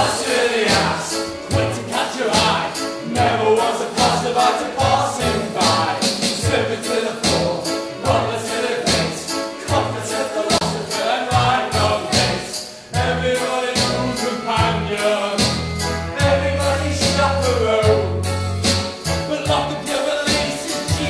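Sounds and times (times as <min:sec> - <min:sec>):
voices singing: 0:00.0 - 0:18.4, 0:19.0 - 0:21.0
musical backing track with beat: 0:00.0 - 0:21.0.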